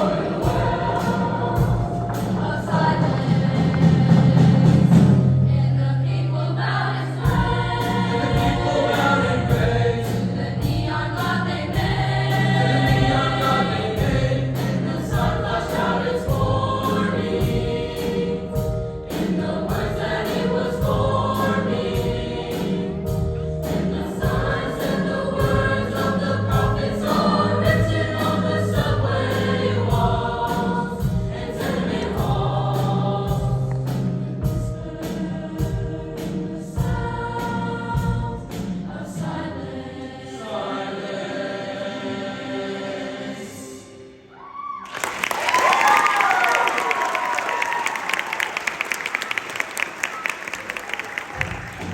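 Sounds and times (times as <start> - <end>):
girls' choir singing: 0.0 - 44.3.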